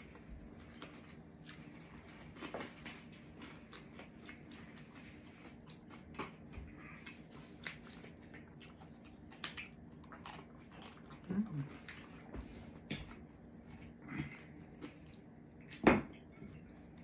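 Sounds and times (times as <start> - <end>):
chewing and mouth clicks: 0.1 - 17.0.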